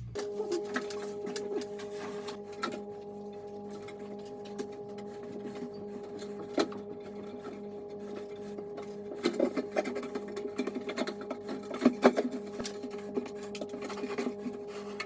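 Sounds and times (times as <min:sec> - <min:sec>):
steady multi-tone hum: 0:00.0 - 0:15.0.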